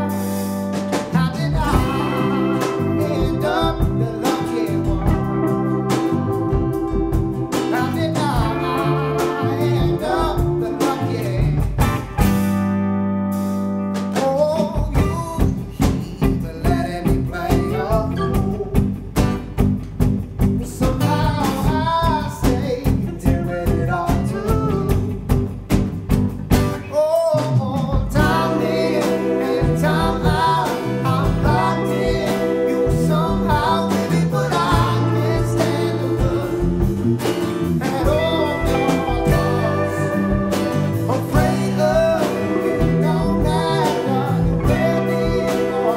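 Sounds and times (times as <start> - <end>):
drum kit: 0.0 - 45.9
electric bass guitar: 0.0 - 45.9
electric guitar: 0.0 - 45.9
man singing: 0.9 - 12.1, 14.1 - 19.0, 20.6 - 25.4, 26.8 - 45.9.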